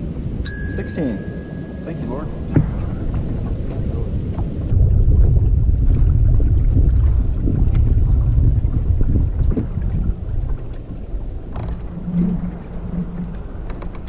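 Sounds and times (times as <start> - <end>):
water against hull: 0.0 - 14.0
wind rumbling on microphone: 0.0 - 14.0.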